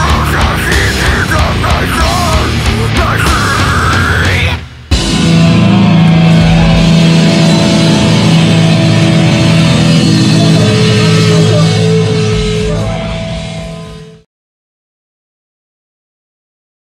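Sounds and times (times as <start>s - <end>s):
rock band final chord: 0.0s - 14.2s.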